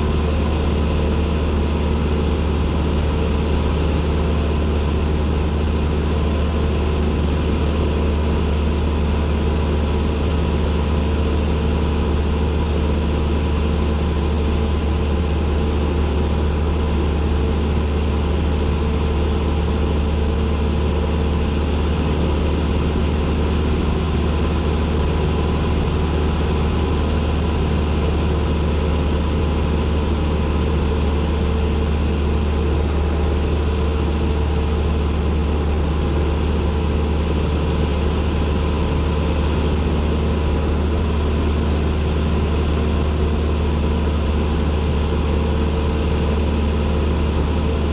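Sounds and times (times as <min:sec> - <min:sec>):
light aircraft engine drone: 0:00.0 - 0:47.9.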